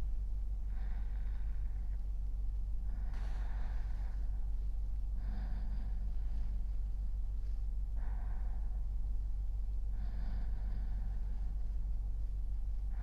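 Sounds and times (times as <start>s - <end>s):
low hum: 0.0s - 13.0s
man's sleeping breaths: 0.0s - 13.0s.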